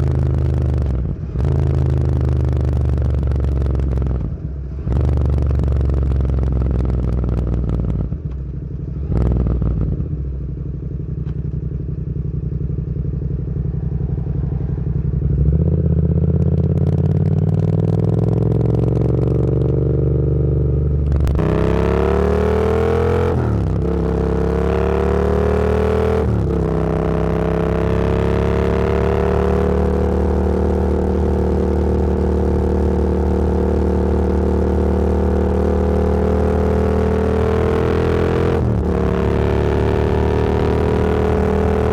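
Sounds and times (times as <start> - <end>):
motorcycle engine accelerating: 0.0 - 8.4, 11.2 - 41.9.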